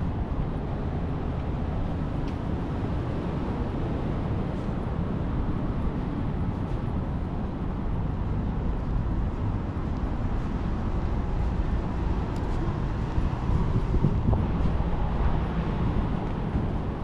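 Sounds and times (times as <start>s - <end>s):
passing traffic rumble: 0.0s - 17.0s.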